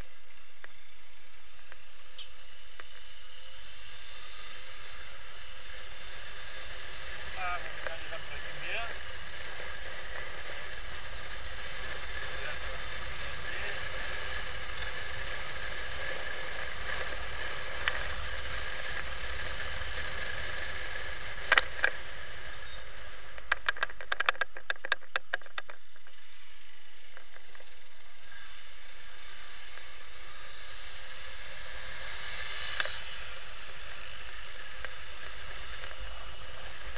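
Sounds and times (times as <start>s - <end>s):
motorcycle road and wind noise: 0.0s - 36.9s.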